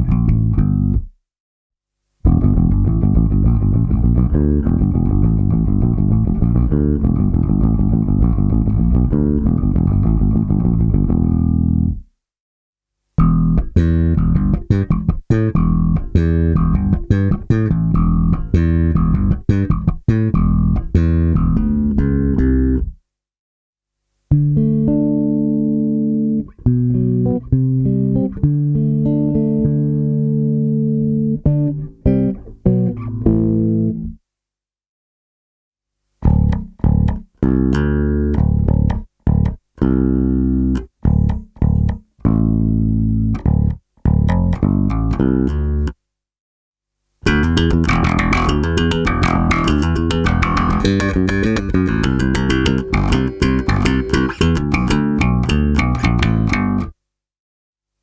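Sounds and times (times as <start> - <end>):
bass guitar plucked notes: 0.0 - 1.1, 2.3 - 12.1, 13.2 - 23.0, 24.3 - 34.2, 36.2 - 46.0, 47.2 - 57.0.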